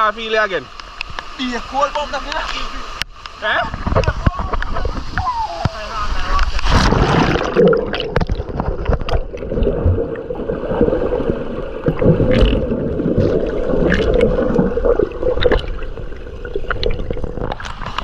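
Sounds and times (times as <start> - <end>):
river water splashing: 0.8 - 18.0.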